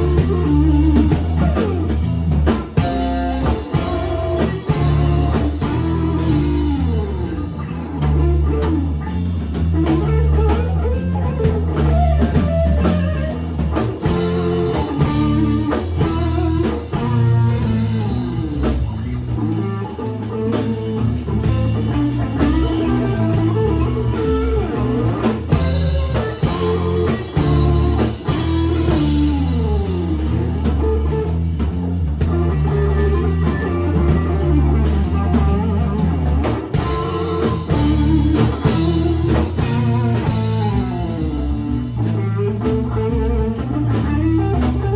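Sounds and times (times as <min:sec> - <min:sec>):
drum kit: 0:00.0 - 0:44.9
electric guitar lead lines: 0:00.0 - 0:44.9
psychedelic rock band playing: 0:00.0 - 0:44.9.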